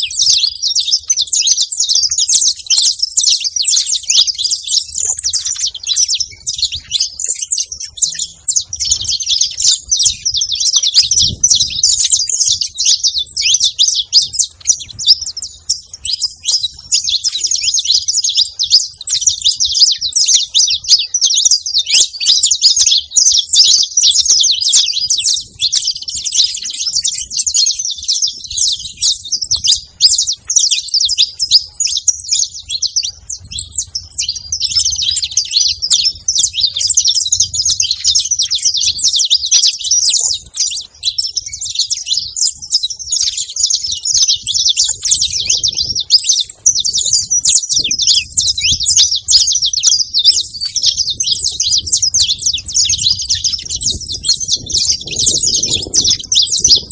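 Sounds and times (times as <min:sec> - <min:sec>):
flock of finches chirping: 0:00.0 - 0:56.9.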